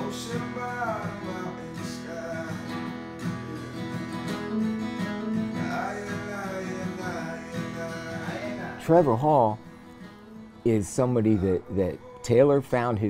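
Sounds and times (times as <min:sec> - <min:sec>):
man singing: 0:00.0 - 0:04.2, 0:05.5 - 0:09.7, 0:10.7 - 0:13.0
acoustic guitars strummed: 0:00.0 - 0:13.0.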